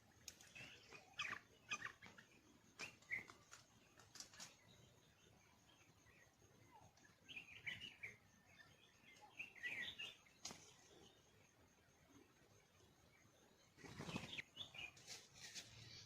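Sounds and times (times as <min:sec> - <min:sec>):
bird chirping: 0:00.1 - 0:16.0.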